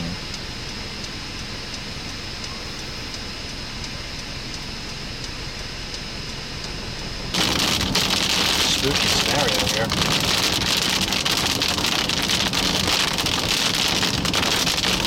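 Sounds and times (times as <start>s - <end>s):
heavy rain hammering vehicle: 0.0s - 15.0s
road and engine noise inside vehicle: 0.0s - 15.0s.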